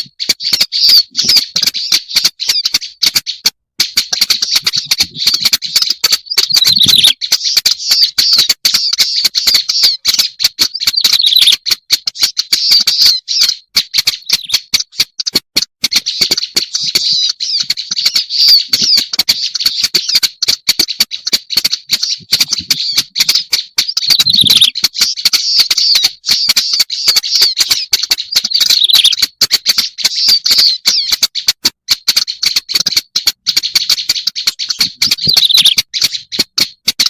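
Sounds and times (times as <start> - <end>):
reed warbler singing: 0.0 - 37.0.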